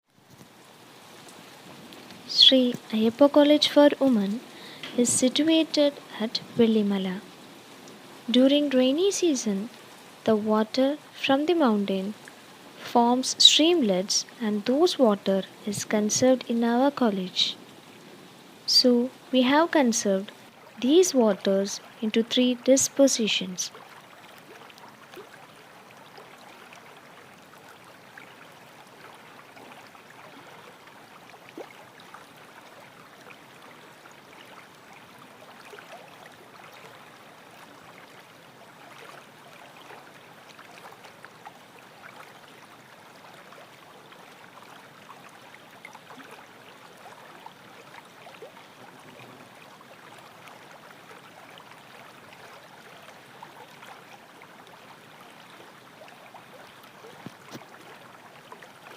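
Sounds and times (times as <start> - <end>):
small stream flowing: 0.0 - 58.9.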